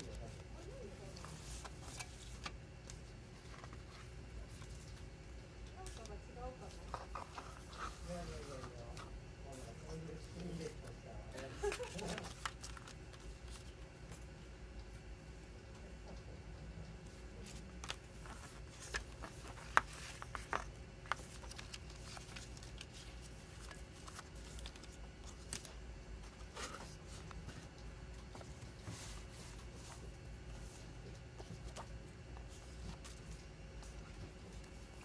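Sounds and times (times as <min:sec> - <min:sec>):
paper and card rustling: 0:00.0 - 0:05.2, 0:05.8 - 0:14.3, 0:17.1 - 0:35.0
steady low hum: 0:00.0 - 0:35.0.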